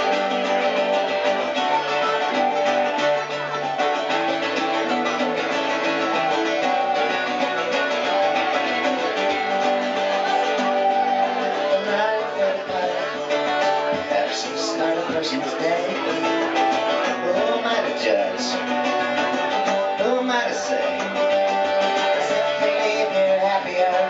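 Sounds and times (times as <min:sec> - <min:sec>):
held melody notes: 0:00.0 - 0:24.0
strummed acoustic guitar: 0:00.0 - 0:24.0.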